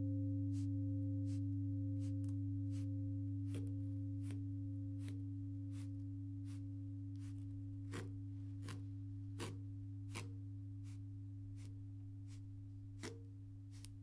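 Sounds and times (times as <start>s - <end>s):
low ringing tone: 0.0s - 14.0s.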